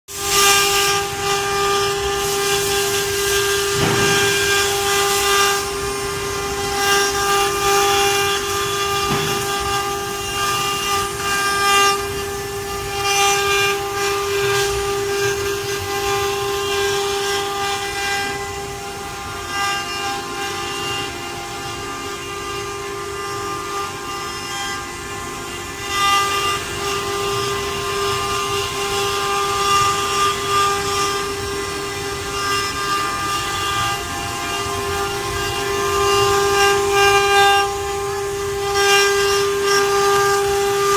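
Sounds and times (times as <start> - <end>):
bit cutting into wood: 0.1 - 40.9
router spindle high whine: 0.1 - 40.9.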